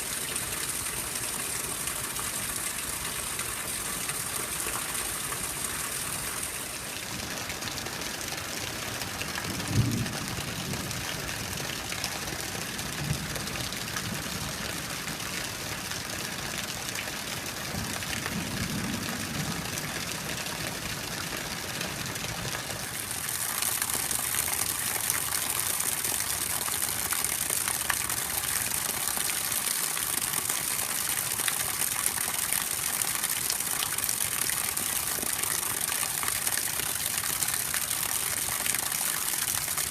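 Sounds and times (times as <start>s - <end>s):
heavy rain pouring and splashing: 0.0s - 39.9s.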